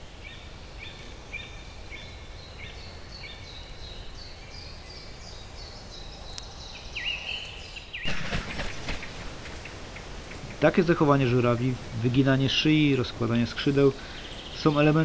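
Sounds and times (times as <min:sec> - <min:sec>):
faint swamp forest ambience: 0:00.0 - 0:15.0.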